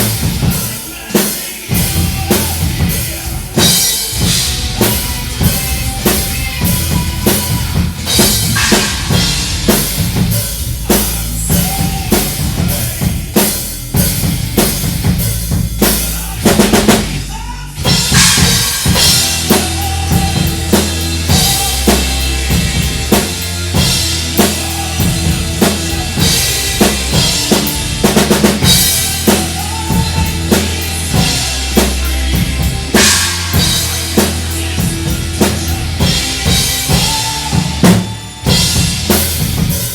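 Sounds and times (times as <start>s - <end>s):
drum kit hits: 0.0s - 39.9s
heavy metal music: 0.0s - 39.9s.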